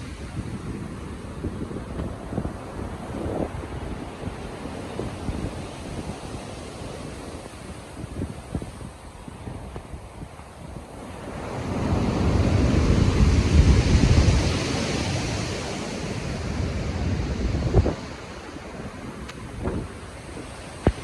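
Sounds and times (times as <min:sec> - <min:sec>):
wind buffeting: 0:00.0 - 0:21.0.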